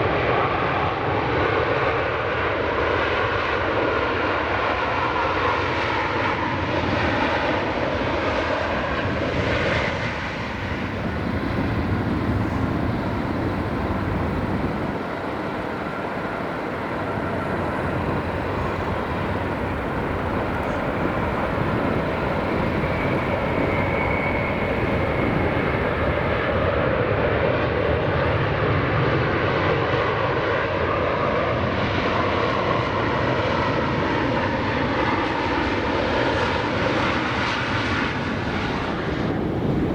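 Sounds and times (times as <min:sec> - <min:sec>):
jet engines on landing: 0:00.0 - 0:39.9.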